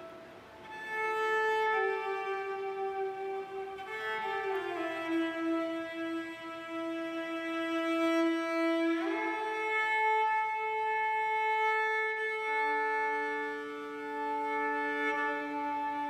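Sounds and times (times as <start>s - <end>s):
slow string-like background music: 0.0s - 16.0s.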